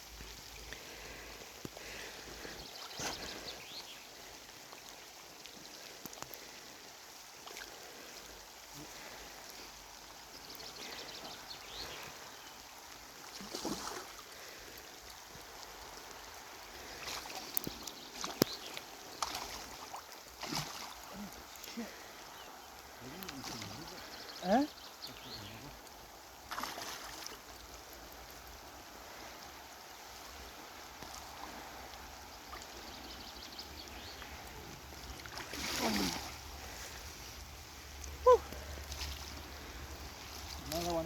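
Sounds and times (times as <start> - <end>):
water trickling and lapping: 0.0 - 41.0.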